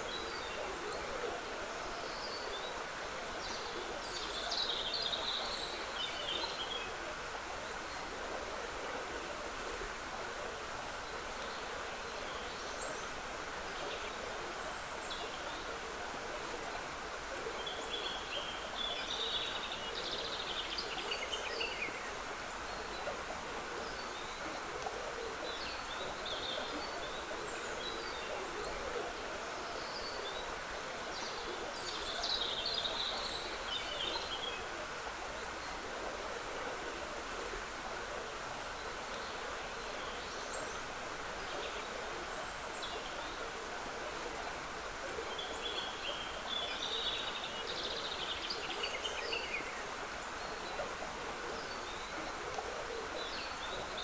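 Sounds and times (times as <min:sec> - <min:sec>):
woodland stream trickling: 0:00.0 - 0:54.0.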